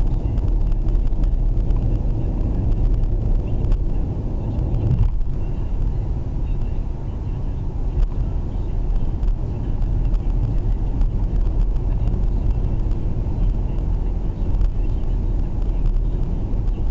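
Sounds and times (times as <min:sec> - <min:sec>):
car interior road rumble: 0:00.0 - 0:16.9.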